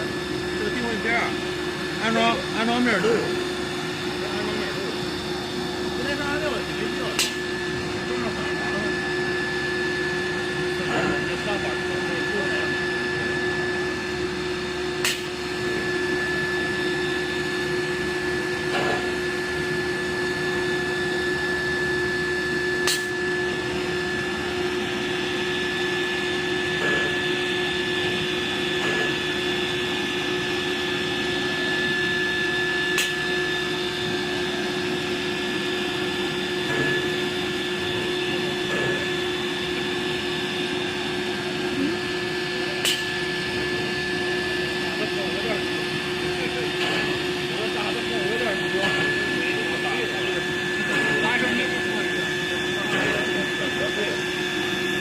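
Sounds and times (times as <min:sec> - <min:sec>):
router machinery humming and whining: 0:00.0 - 0:55.0.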